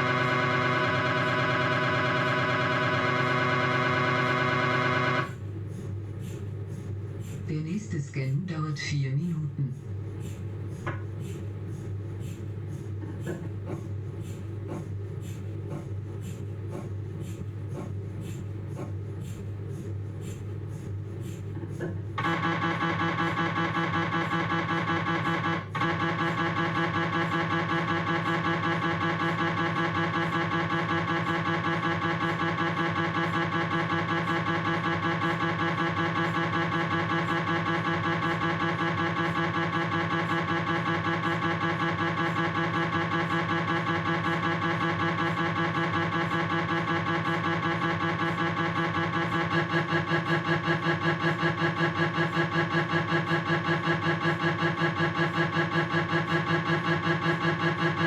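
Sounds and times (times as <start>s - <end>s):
mri scanner buzzing: 0.0s - 58.0s.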